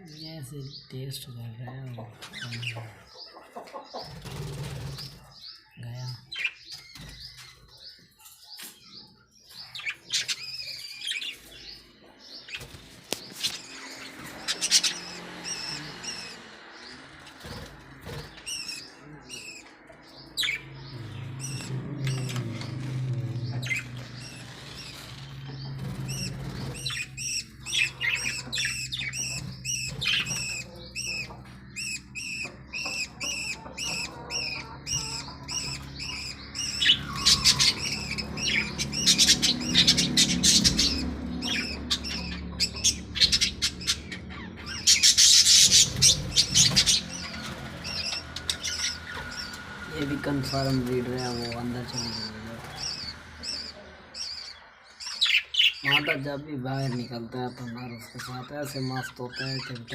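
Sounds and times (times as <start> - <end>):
budgerigars chirping: 0.1 - 59.9.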